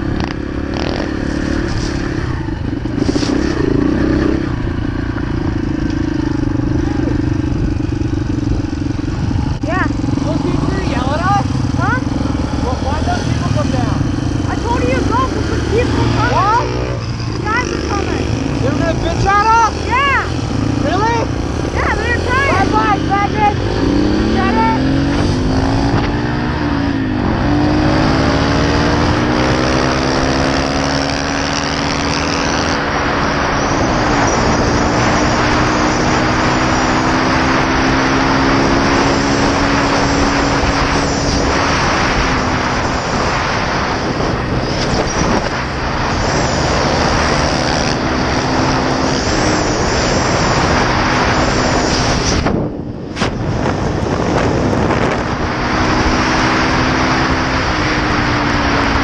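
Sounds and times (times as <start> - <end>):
dirt bike engine shifting gears: 0.0 - 58.1
heavy wind noise: 0.0 - 59.0.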